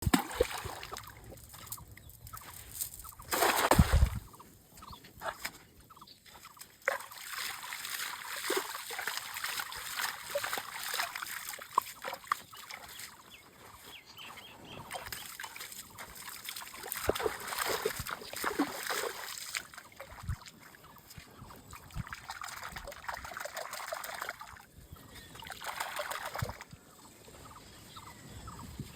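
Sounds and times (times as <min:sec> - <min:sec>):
water splashing and trickling: 0:00.0 - 0:04.4, 0:05.4 - 0:27.4.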